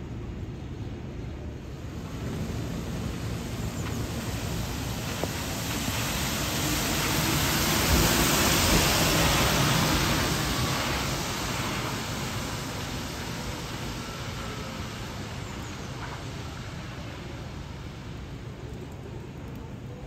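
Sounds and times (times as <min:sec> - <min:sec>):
tyres hissing on wet road: 0:00.9 - 0:20.0.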